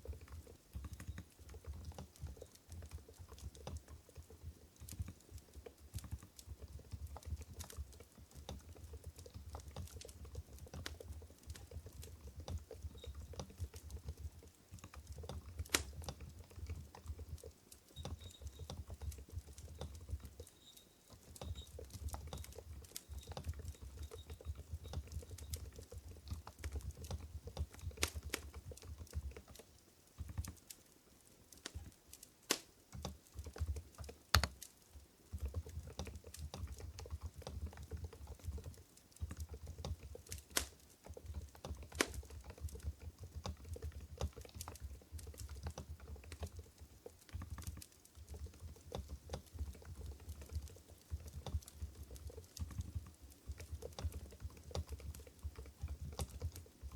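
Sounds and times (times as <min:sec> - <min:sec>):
soft muted keyboard typing: 0:00.0 - 0:56.9.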